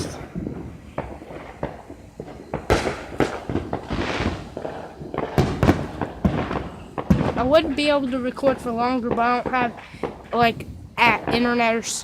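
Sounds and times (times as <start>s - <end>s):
fireworks banging: 0.0s - 12.0s
fireworks hissing: 0.0s - 12.0s.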